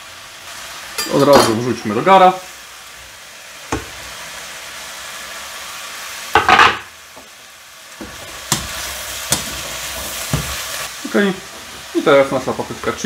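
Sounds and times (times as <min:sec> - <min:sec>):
burst of sizzling as pepper is added: 0:00.0 - 0:13.0
vegetables sizzling in oil: 0:00.0 - 0:13.0.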